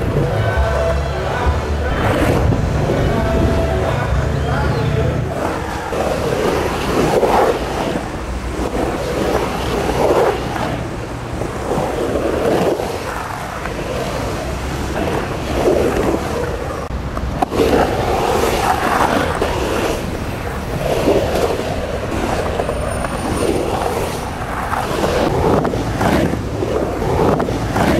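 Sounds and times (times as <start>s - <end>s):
skateboard wheels rolling on concrete: 0.0s - 27.9s.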